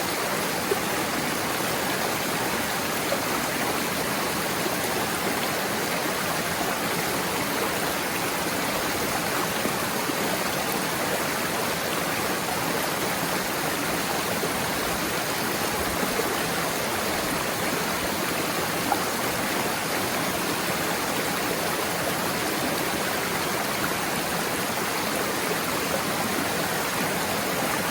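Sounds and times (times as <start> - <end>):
waterfall and stream rushing: 0.0 - 27.9.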